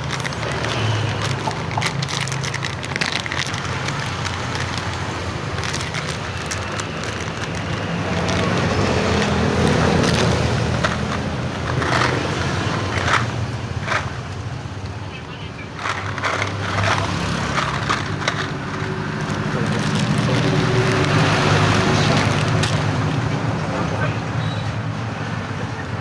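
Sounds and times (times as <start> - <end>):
scattered clicks and clatters: 0.0 - 24.0
steady rumble of traffic: 0.0 - 26.0.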